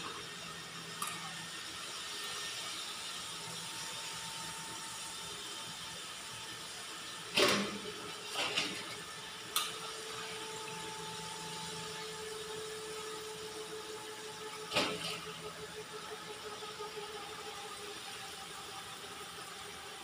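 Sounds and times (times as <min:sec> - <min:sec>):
chicken deep-frying in oil: 0:00.0 - 0:20.0.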